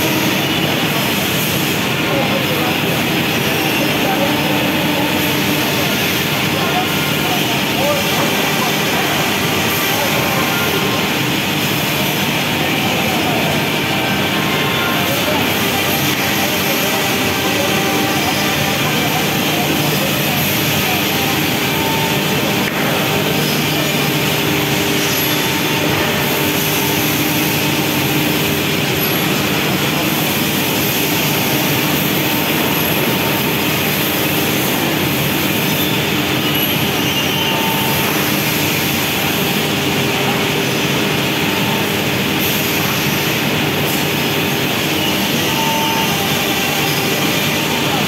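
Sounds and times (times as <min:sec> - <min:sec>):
factory machinery roar: 0:00.0 - 0:48.0.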